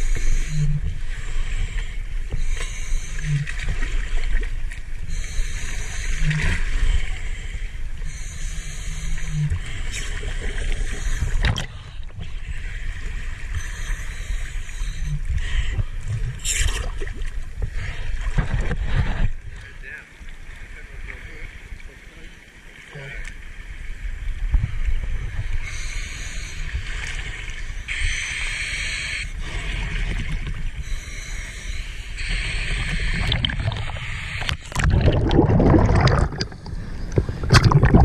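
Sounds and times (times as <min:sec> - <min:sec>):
sea water sloshing and splashing: 0:00.0 - 0:27.9, 0:29.4 - 0:31.1, 0:32.1 - 0:38.0.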